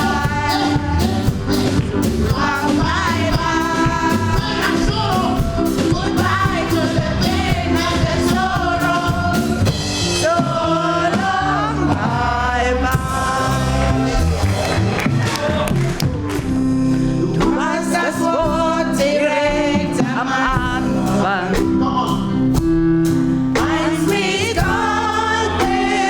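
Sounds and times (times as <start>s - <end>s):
gospel singers holding notes: 0.0s - 22.5s, 23.2s - 26.0s
instrumental accompaniment with beat: 0.0s - 26.0s.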